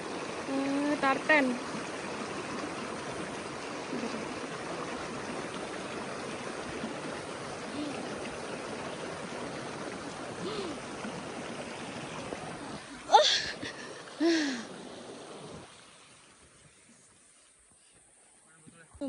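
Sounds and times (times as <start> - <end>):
stream flowing over rock: 0.0 - 18.4.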